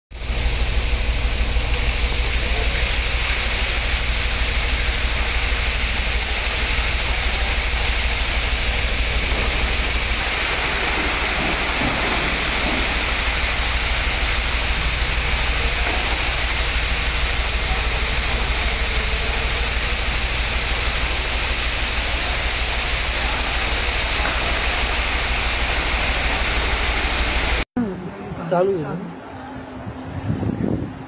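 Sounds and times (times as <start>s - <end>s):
rainwater pouring and streaming: 0.1s - 27.7s.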